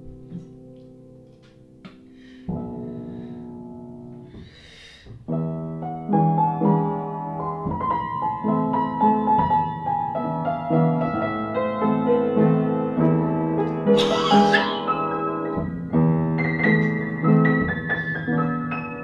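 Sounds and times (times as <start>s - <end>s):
piano playing chords: 0.0s - 19.0s.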